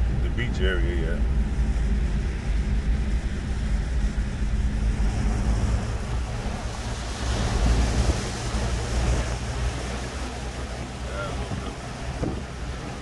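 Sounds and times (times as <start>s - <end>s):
breaking surf: 0.0s - 13.0s
car driving rumble from inside: 0.0s - 13.0s
wind hiss: 0.0s - 13.0s.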